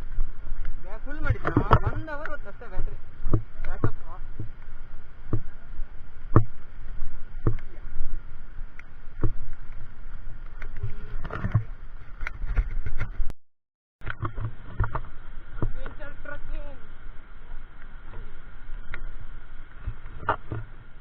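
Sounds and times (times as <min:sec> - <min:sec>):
wind rumbling on microphone: 0:00.0 - 0:13.3, 0:14.0 - 0:21.0.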